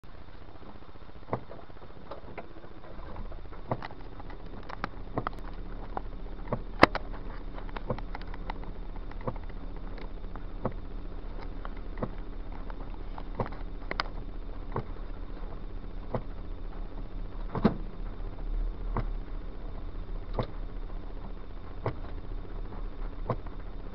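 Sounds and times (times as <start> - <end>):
low car hum: 0.0 - 23.9
rain tapping on car roof: 0.3 - 23.9.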